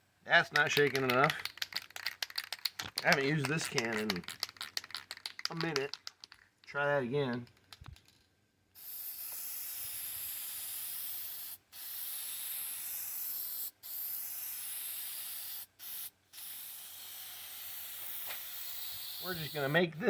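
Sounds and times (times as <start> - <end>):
spray paint can hissing: 1.3 - 6.4, 8.0 - 20.0.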